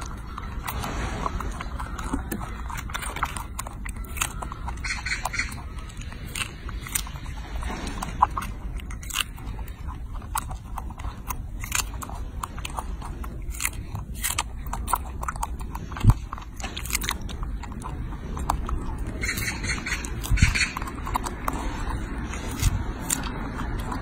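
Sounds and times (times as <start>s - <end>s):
monkey chewing fruit: 0.0s - 24.0s.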